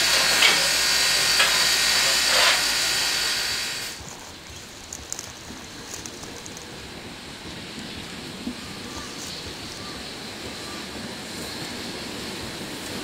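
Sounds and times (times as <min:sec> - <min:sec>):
steam venting hiss: 0:00.0 - 0:04.2, 0:05.4 - 0:13.0.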